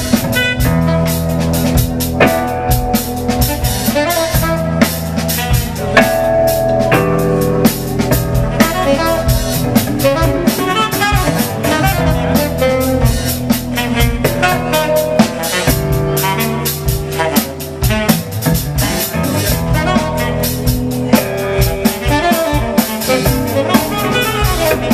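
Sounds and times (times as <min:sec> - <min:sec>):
drum kit beat: 0:00.0 - 0:24.9
electric guitar: 0:00.0 - 0:24.9
keyboards: 0:00.0 - 0:24.9
saxophone: 0:00.0 - 0:24.9.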